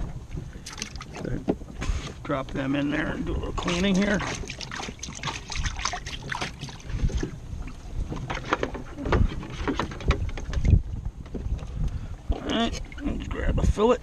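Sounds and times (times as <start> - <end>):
water sloshing in a plastic bucket: 0.0 - 13.4.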